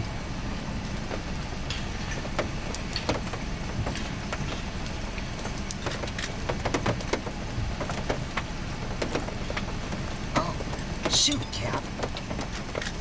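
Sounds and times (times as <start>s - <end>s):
car engine idling: 0.0s - 13.0s
rain ticking on car body: 0.0s - 13.0s.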